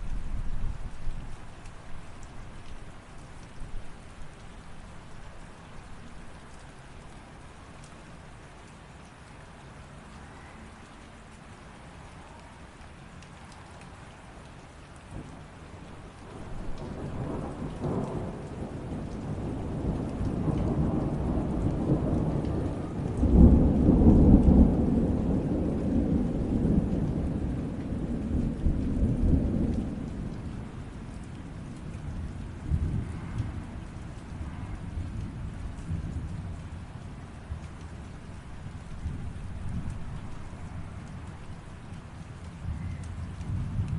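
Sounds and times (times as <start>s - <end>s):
light rain: 0.0s - 43.9s.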